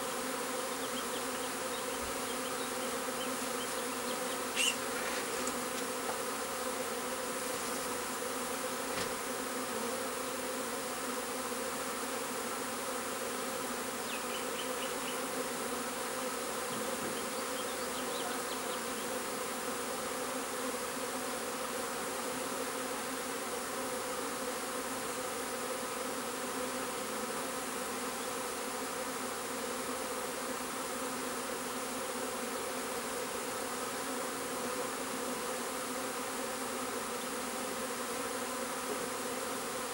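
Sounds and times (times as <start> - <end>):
honeybee swarm humming: 0.0 - 39.9.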